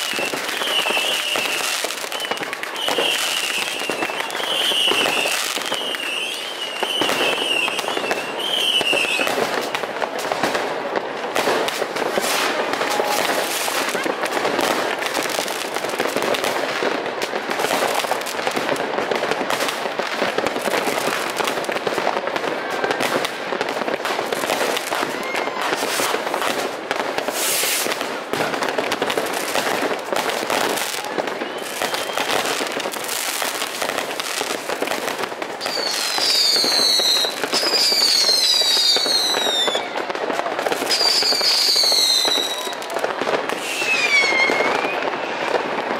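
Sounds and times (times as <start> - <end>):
fireworks banging and crackling: 0.0 - 45.9
whistling fireworks: 0.0 - 45.9.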